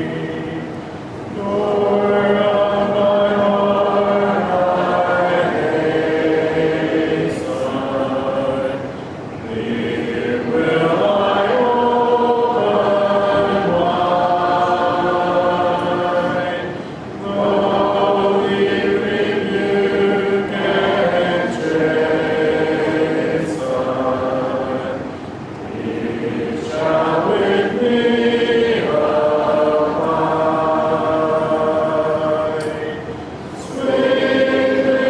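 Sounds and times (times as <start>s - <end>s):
congregation singing a hymn: 0.0s - 35.0s.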